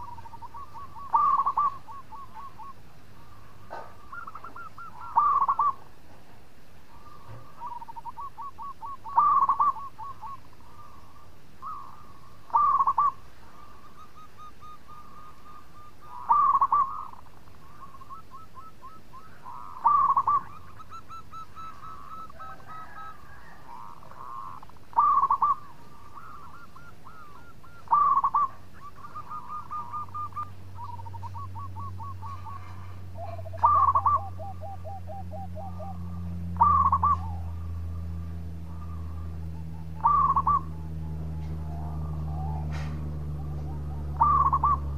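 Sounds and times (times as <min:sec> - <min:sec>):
dove cooing: 0:00.0 - 0:06.1, 0:06.8 - 0:44.9
low steady hum: 0:00.0 - 0:44.9.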